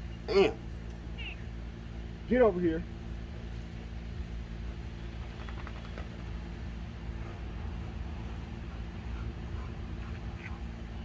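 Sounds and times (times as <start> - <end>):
motor droning hum: 0.0 - 11.0.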